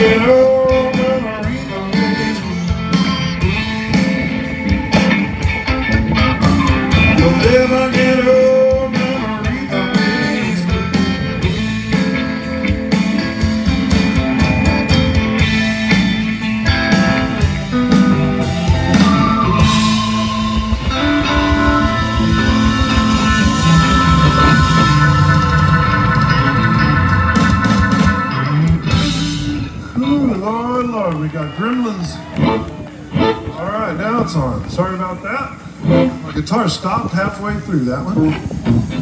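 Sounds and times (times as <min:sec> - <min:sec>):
blues-rock band playing: 0:00.0 - 0:39.0
bending electric guitar note: 0:01.5 - 0:30.7, 0:32.2 - 0:34.0, 0:35.6 - 0:36.4.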